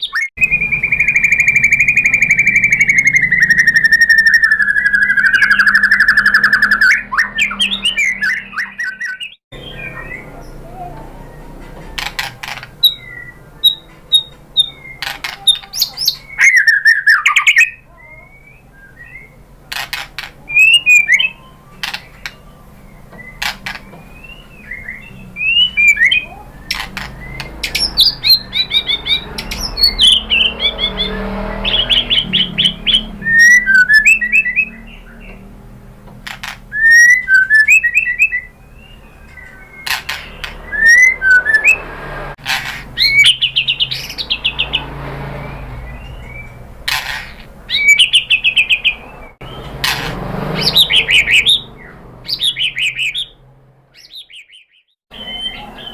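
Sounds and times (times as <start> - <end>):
bird singing whistled phrases: 0.0 - 11.6, 12.8 - 19.4, 20.4 - 35.4, 36.7 - 41.8, 43.0 - 44.8, 47.7 - 49.7, 50.6 - 53.4, 54.0 - 55.9.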